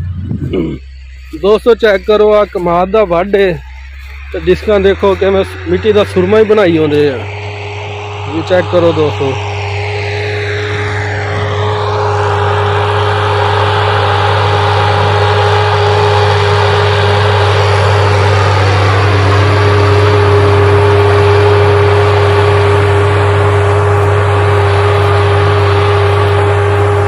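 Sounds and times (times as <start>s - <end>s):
tractor diesel engine humming: 0.0s - 27.0s.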